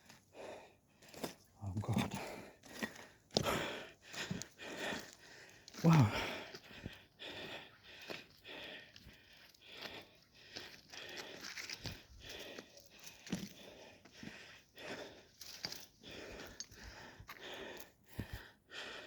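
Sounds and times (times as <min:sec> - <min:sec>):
man breathing heavily: 0:00.0 - 0:19.0
footsteps crunching on rocky ground: 0:01.0 - 0:18.4.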